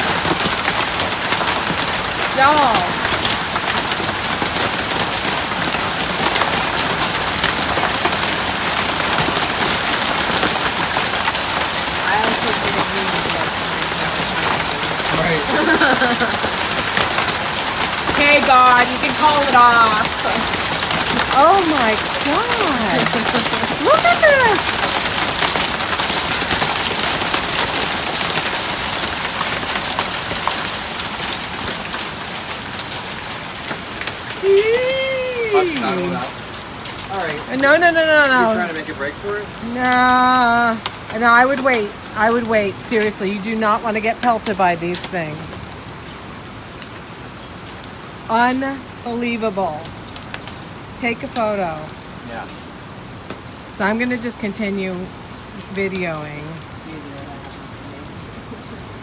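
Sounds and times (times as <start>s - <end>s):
hail and heavy rain pelting: 0.0s - 59.0s.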